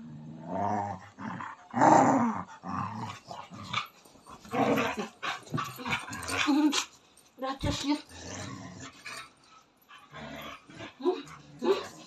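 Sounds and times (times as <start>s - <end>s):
dog growling: 0.0s - 6.9s, 8.0s - 9.4s, 10.0s - 12.0s.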